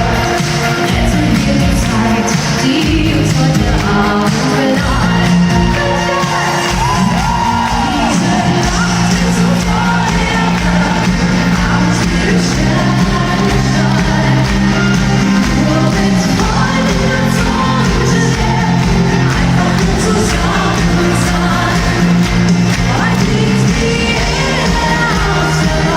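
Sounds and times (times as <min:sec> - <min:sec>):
live pop band music: 0:00.0 - 0:25.9
person singing: 0:00.0 - 0:25.9.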